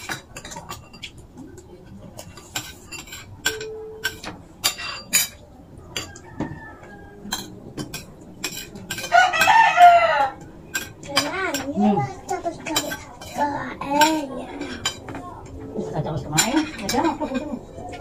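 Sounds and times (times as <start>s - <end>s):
cutlery clinking on plates: 0.0s - 15.6s, 16.2s - 18.0s.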